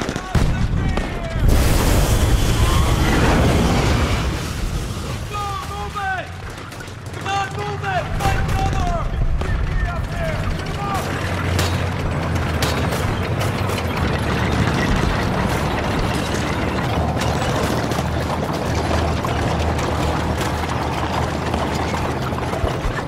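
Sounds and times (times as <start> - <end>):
sharp cracks: 0.0 - 23.0
tank engine rumbling: 0.0 - 23.0
tracks clanking and rattling: 0.0 - 23.0.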